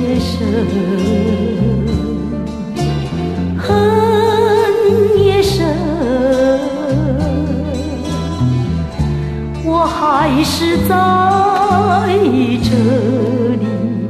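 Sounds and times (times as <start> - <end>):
pop ballad with vibrato melody: 0.0 - 14.0.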